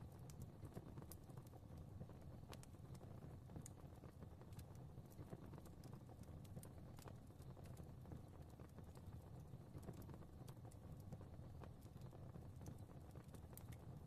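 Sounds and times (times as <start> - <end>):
fire crackling and popping: 0.0 - 14.0
low rumble of flame: 0.0 - 14.0.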